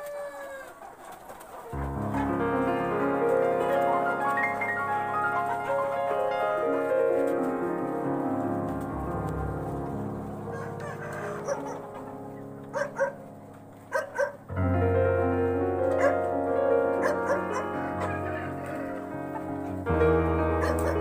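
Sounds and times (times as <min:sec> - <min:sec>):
chickens calling: 0:00.0 - 0:14.5, 0:15.6 - 0:21.0
piano music: 0:01.6 - 0:21.0.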